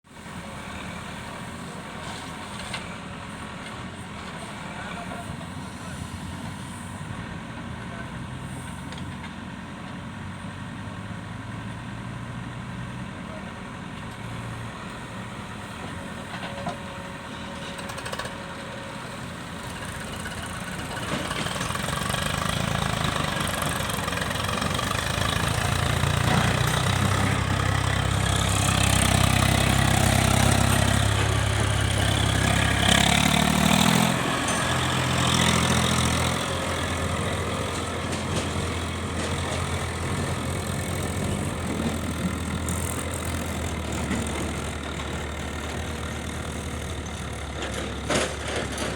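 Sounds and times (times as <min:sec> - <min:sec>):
diesel engine under load: 0:00.1 - 0:48.9.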